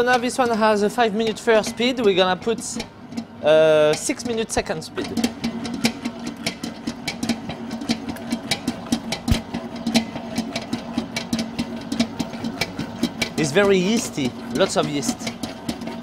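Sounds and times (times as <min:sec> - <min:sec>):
mixer motor hum: 0:00.0 - 0:16.0.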